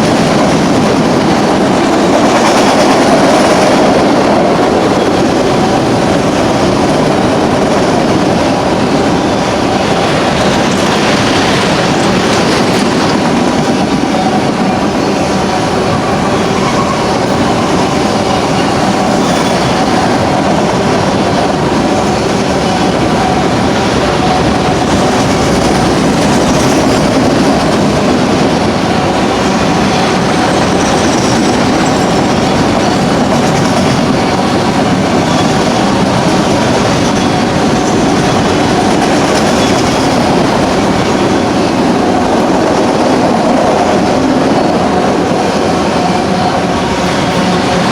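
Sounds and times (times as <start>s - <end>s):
train wheels clacking on rails: 0.0s - 47.9s
high wheel squeal: 4.6s - 47.9s.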